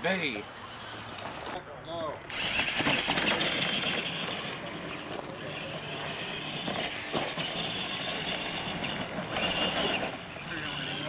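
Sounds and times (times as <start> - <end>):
toy truck motor whine: 0.3 - 1.6, 2.2 - 11.0.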